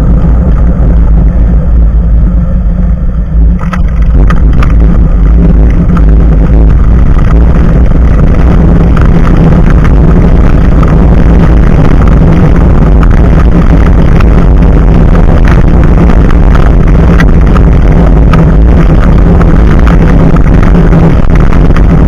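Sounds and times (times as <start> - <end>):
bicycle tyre road rumble: 0.0 - 22.0
wind on microphone: 0.0 - 22.0.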